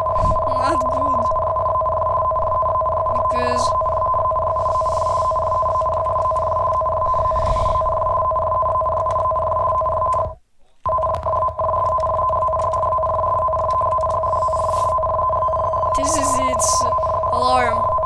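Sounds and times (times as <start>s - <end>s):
two-pitch alarm tone: 0.0s - 18.0s.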